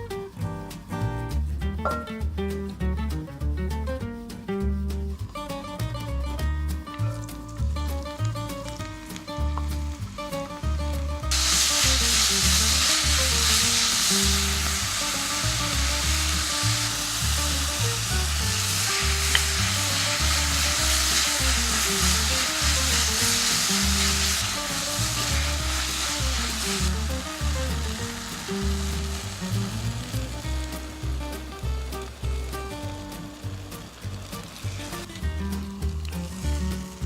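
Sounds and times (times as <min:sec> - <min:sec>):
background music with beat: 0:00.0 - 0:37.0
food sizzling in oil: 0:06.9 - 0:37.0.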